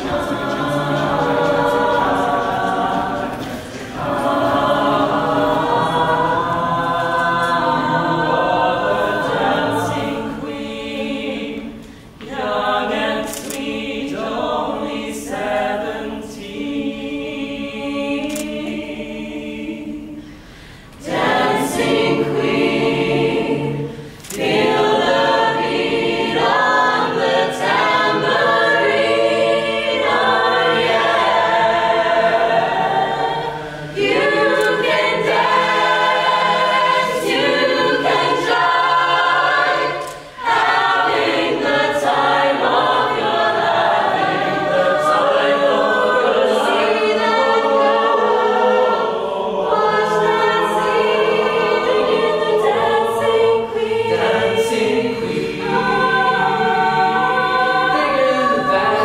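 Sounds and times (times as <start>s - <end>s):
a cappella group singing: 0.0s - 59.0s.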